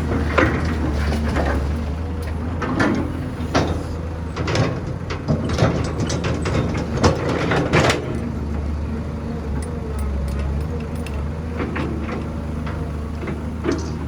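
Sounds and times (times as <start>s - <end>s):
clanks of dirt and metal: 0.0s - 14.0s
diesel machinery running: 0.0s - 14.0s.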